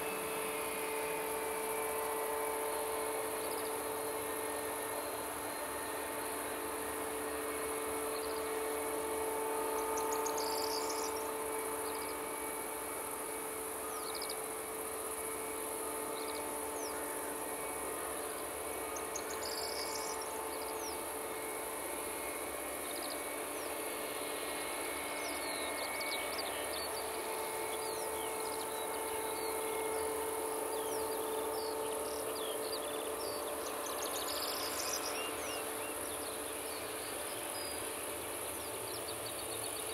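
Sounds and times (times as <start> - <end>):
insects chirring: 0.0 - 39.9
jet engines idling: 0.0 - 39.9.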